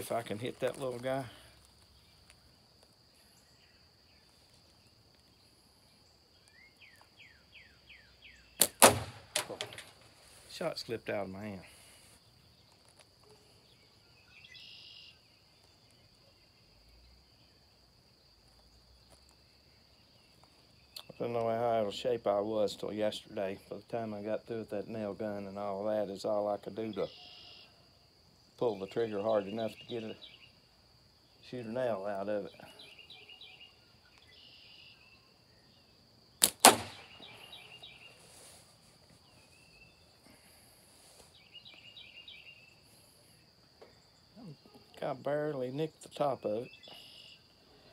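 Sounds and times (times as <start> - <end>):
short high insect call: 0.0 - 21.6, 26.8 - 47.9.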